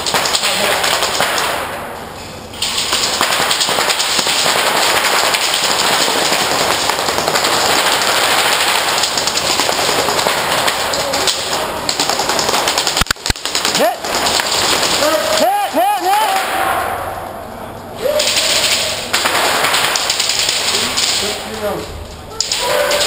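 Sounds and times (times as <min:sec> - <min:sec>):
airsoft guns firing: 0:00.0 - 0:01.9, 0:02.6 - 0:16.9, 0:18.1 - 0:21.6, 0:22.4 - 0:23.0.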